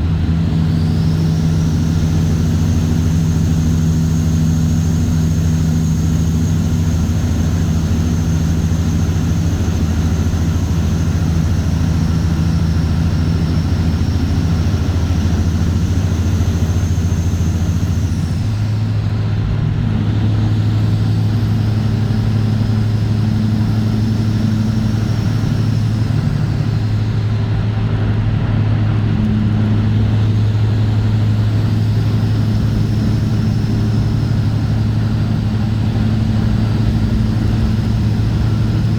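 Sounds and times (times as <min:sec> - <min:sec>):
diesel engine exhaust drone: 0:00.0 - 0:38.9.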